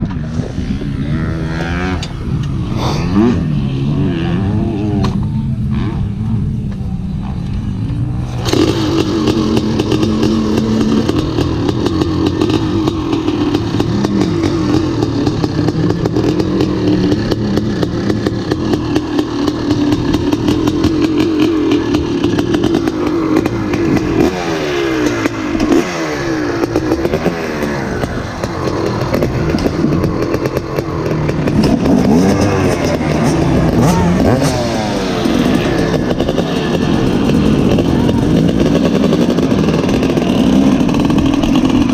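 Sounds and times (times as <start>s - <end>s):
two-stroke dirt bike engine revving: 0.0s - 41.9s.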